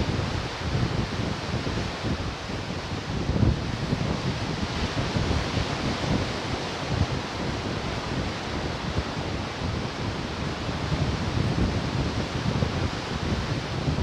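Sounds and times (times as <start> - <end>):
ocean surf washing: 0.0 - 14.0
wind buffeting microphone: 0.0 - 14.0.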